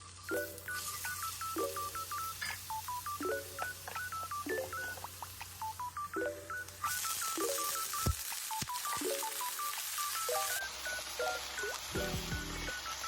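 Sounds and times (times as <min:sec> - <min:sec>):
playful electronic music: 0:00.2 - 0:13.0.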